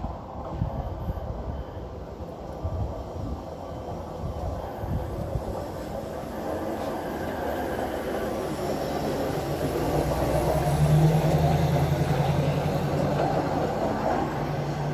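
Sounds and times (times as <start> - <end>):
rail truck passing by: 0.0 - 14.9.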